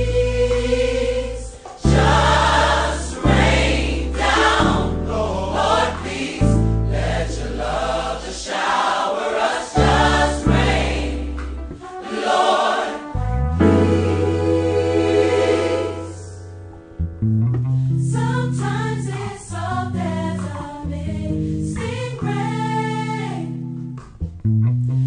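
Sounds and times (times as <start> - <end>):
instrumental backing with bass: 0.0 - 8.3, 9.8 - 12.4, 13.0 - 25.0
gospel choir singing: 0.0 - 16.6, 18.0 - 21.0, 21.7 - 23.6.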